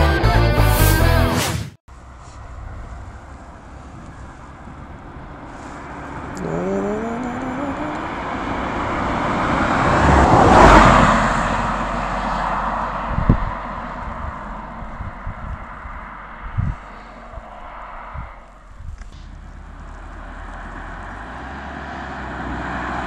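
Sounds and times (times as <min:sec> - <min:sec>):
car engine passing: 0:00.6 - 0:23.0.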